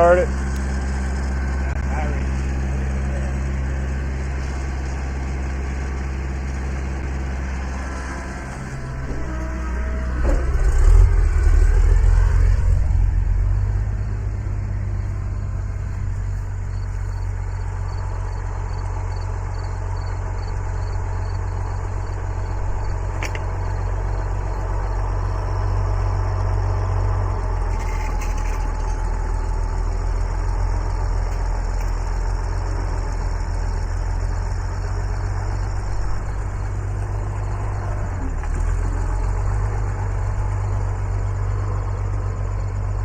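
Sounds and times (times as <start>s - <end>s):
tractor engine revving: 0.0s - 43.0s.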